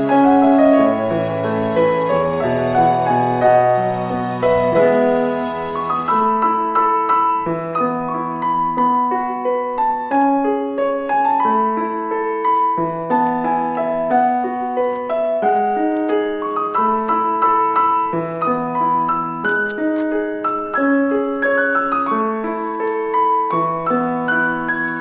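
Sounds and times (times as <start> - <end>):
gentle piano melody with chords: 0.0 - 25.0.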